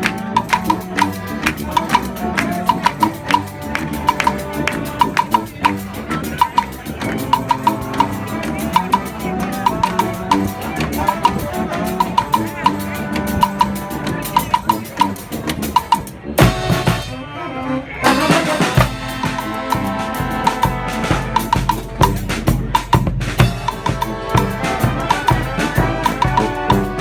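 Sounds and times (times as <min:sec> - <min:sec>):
steady clicking beat: 0:00.0 - 0:17.1, 0:18.1 - 0:27.0
drum kit and percussion: 0:00.0 - 0:17.2, 0:18.1 - 0:27.0
marching band playing: 0:00.0 - 0:27.0.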